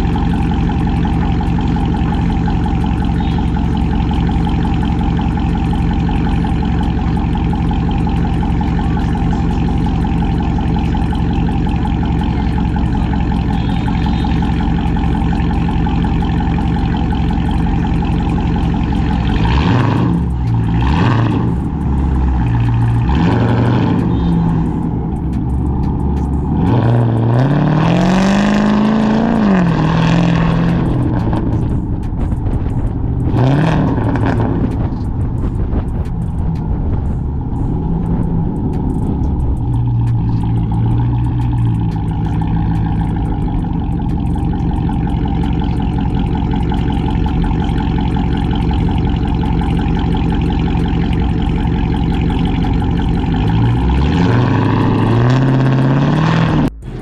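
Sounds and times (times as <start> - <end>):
loud engine revving: 0.0 - 57.0.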